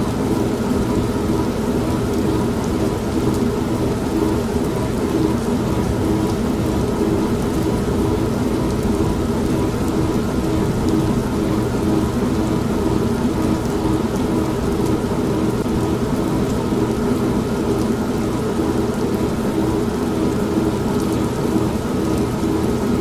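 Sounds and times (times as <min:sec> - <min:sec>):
steady rain: 0:00.0 - 0:23.0
washing machine motor hum: 0:00.0 - 0:23.0.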